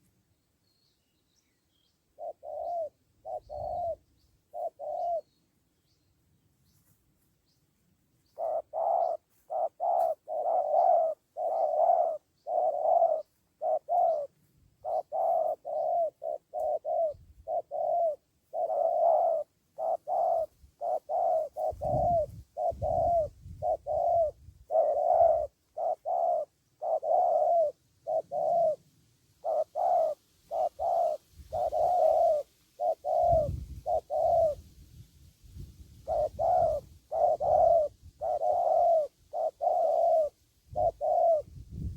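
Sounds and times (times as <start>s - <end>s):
dove cooing: 2.1s - 5.4s, 8.2s - 34.7s, 35.6s - 41.9s.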